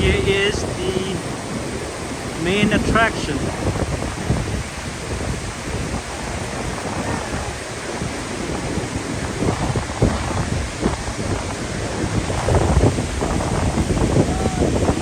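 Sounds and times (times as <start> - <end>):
waterfall crashing: 0.0 - 15.0
wind buffeting microphone: 0.0 - 15.0.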